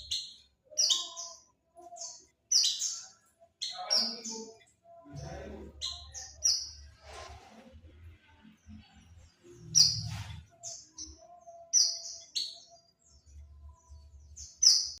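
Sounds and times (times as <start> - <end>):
bird giving high chirping calls: 0.0 - 6.9, 9.6 - 15.0.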